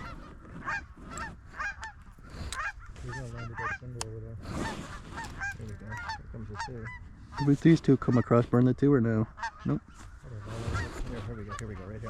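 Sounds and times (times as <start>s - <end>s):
geese honking and clucking: 0.0s - 12.0s.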